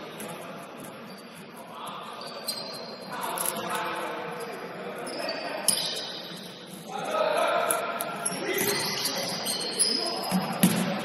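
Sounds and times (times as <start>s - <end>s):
indistinct voices in a gym: 0.0s - 11.0s.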